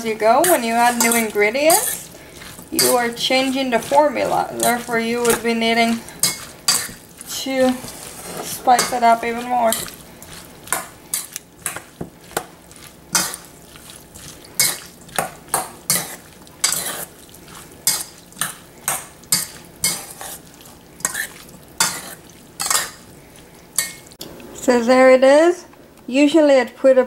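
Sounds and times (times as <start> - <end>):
spoon scraping metal bowl: 0.0 - 23.0.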